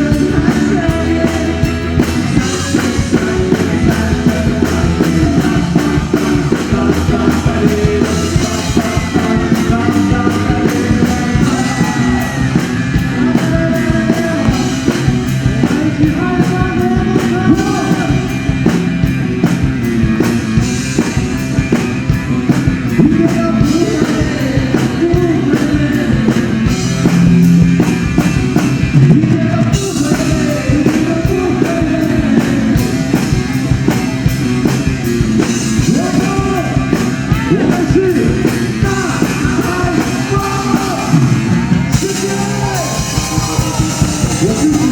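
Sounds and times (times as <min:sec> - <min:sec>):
person singing: 0:00.0 - 0:18.8, 0:22.8 - 0:44.9
drum kit beat: 0:00.0 - 0:44.9
guitar: 0:00.0 - 0:44.9.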